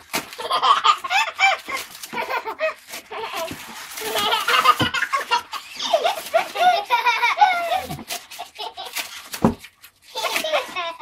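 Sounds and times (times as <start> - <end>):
toddlers laughing and squealing: 0.3 - 9.4, 10.0 - 11.0
knocks and rustles of packing: 1.7 - 10.9.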